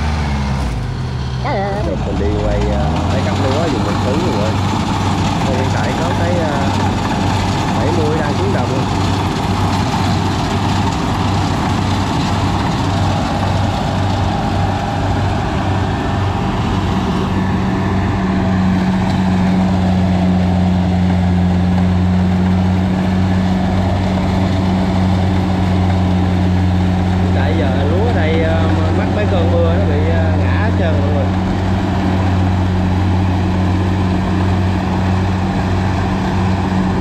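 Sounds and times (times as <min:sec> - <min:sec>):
combine harvester engine running: 0:00.0 - 0:37.0
higher machine hum: 0:00.0 - 0:37.0.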